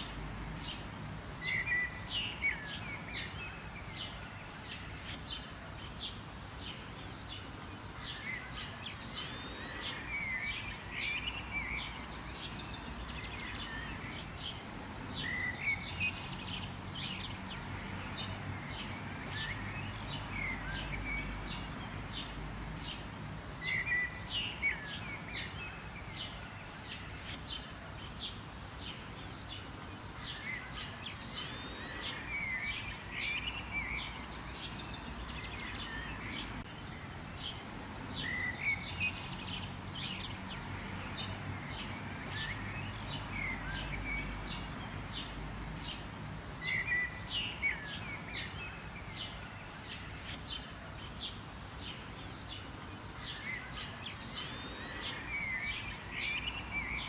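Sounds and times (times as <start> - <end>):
birds chirping: 0.0 - 57.0
steady background hiss: 0.0 - 57.0.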